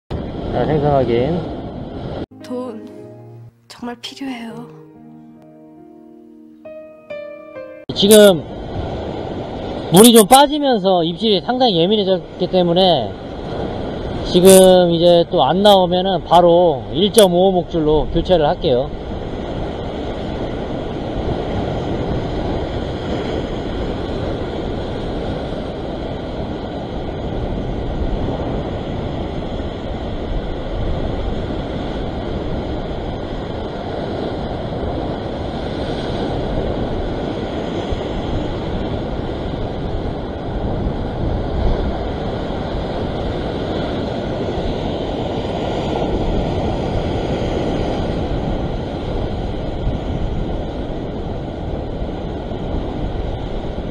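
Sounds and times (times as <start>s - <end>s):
wind buffeting microphone: 8.2s - 53.9s.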